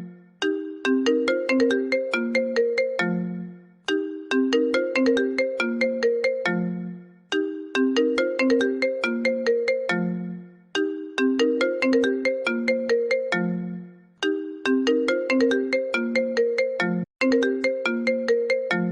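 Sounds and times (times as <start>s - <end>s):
phone ringtone melody: 0.0s - 18.9s.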